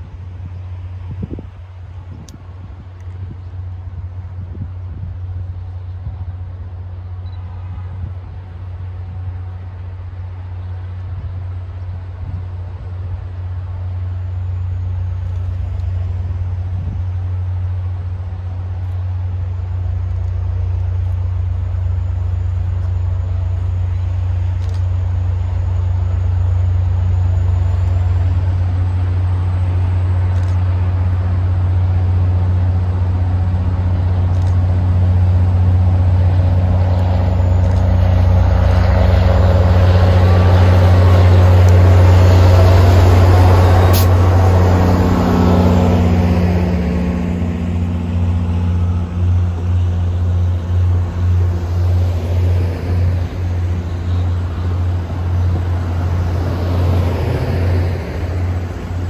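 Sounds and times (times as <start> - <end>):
diesel locomotive engine drone: 0.0 - 59.0
train wheels on rails: 0.0 - 59.0.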